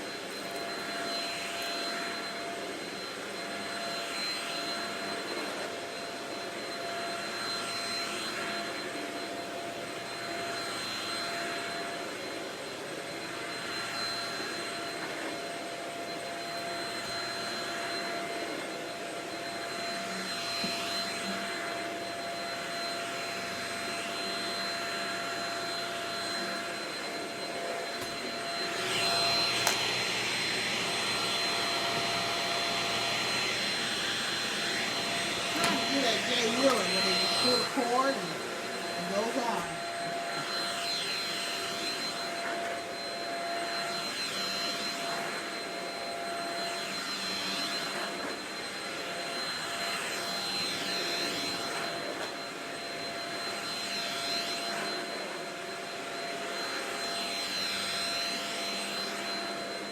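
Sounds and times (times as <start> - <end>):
vacuum cleaner whining: 0.0 - 59.9.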